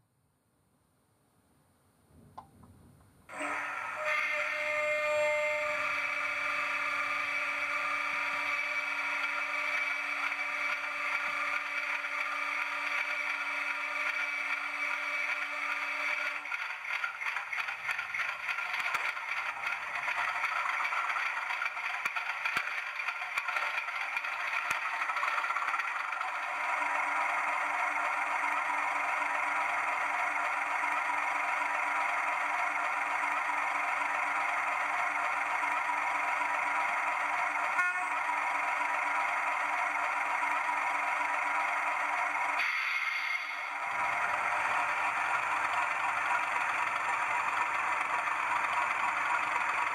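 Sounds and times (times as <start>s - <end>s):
model locomotive diesel engine sound: 3.2s - 49.9s.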